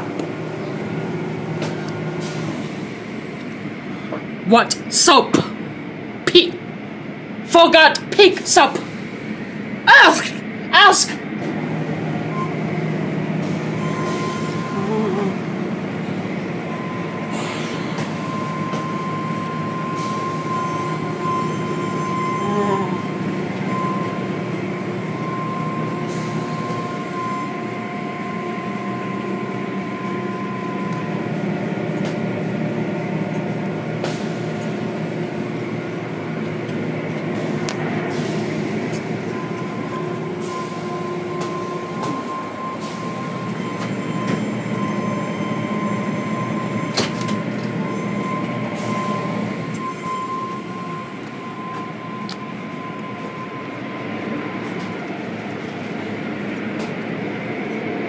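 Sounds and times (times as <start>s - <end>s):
car wash machine hum: 8.4s - 58.0s
high whine: 8.5s - 57.8s.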